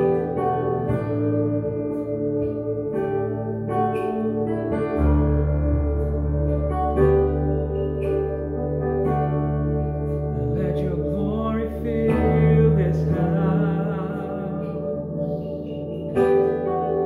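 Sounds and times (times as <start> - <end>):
deep bass note: 0.0 - 17.0
electronic keyboard chords: 0.0 - 17.0.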